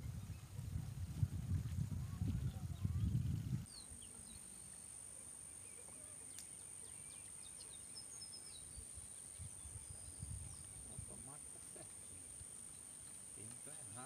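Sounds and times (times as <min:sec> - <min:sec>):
small birds chirping: 0:02.0 - 0:14.0.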